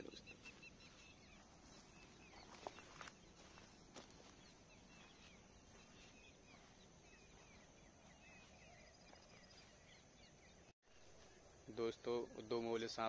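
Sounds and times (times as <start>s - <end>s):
faint birds twittering: 0.0s - 13.0s.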